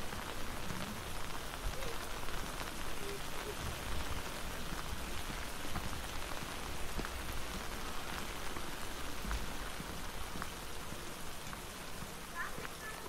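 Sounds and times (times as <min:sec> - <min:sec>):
rain on an umbrella: 0:00.0 - 0:13.0.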